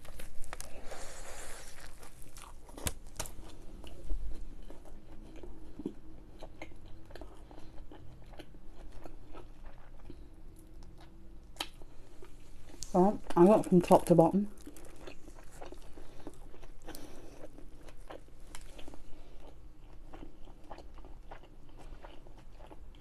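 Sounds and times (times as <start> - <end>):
person chewing a burger: 0.0 - 12.9, 14.5 - 23.0.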